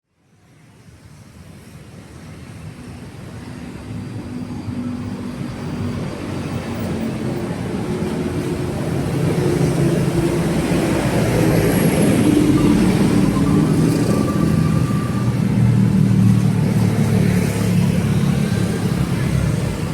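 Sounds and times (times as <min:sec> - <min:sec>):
traffic engines rumbling: 0:00.3 - 0:19.9.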